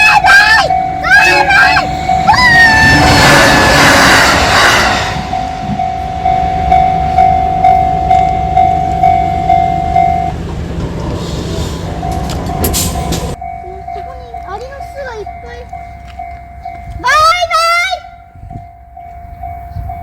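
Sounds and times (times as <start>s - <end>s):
crossing warning bell ringing: 0.0s - 20.0s
train passing: 0.0s - 20.0s.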